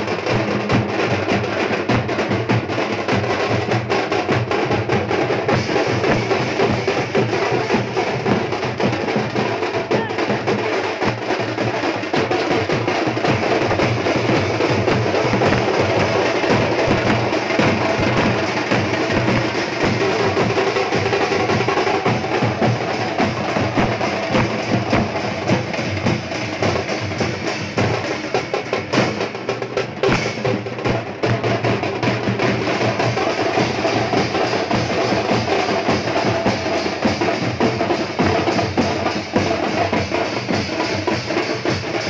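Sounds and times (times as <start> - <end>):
drums playing fast driving beat: 0.0 - 42.0.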